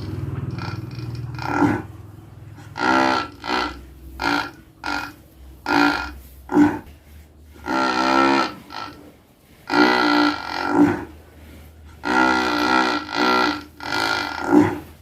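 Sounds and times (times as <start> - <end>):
cow snoring: 0.0 - 15.0.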